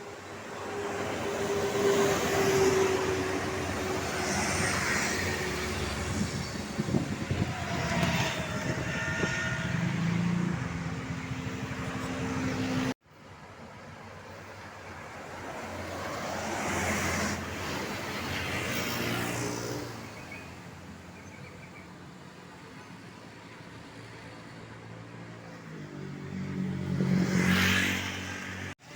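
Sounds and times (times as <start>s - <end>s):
vehicles passing close by: 0.0s - 28.9s.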